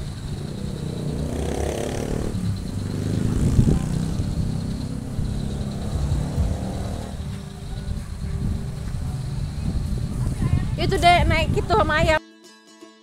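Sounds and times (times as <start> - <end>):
car engine and road rumble: 0.0 - 12.2.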